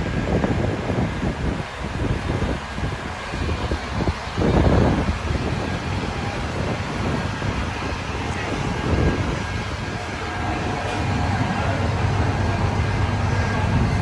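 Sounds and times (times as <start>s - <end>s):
engines idling: 0.0s - 14.0s
traffic rumble: 0.0s - 14.0s
wind buffeting microphone: 0.0s - 14.0s.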